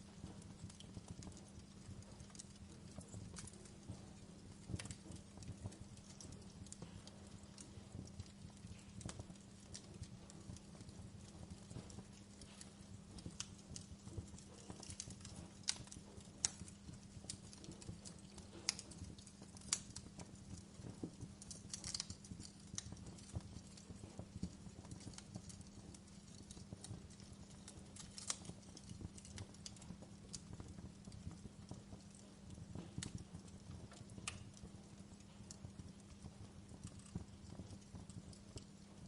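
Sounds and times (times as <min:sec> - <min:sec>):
low steady burning noise: 0:00.0 - 0:39.0
wood fire crackling and popping: 0:00.0 - 0:39.0.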